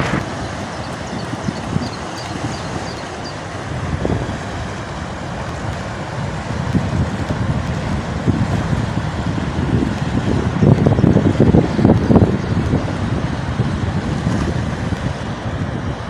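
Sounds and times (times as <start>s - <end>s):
low rumble of travel: 0.0s - 16.0s
wind buffeting microphone: 0.0s - 16.0s.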